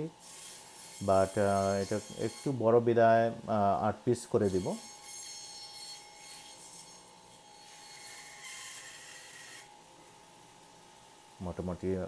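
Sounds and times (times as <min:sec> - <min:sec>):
band saw humming: 0:00.0 - 0:09.8.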